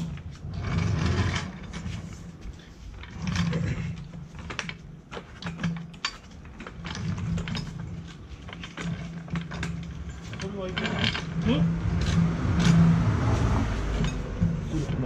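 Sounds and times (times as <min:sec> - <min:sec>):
floor jack rolling over concrete: 0:00.0 - 0:15.0.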